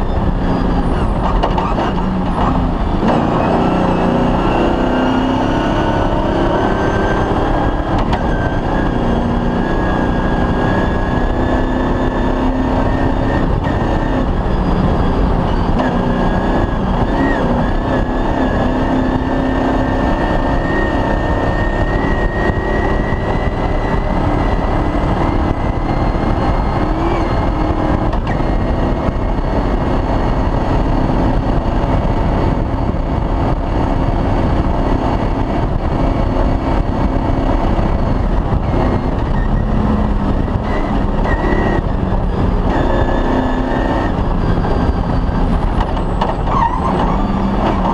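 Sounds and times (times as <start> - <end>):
rally car engine: 0.0 - 47.9.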